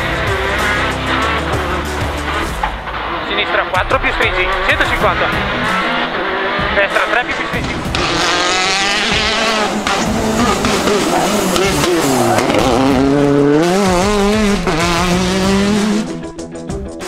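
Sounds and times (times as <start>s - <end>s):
rally car engine revving: 0.0s - 16.7s.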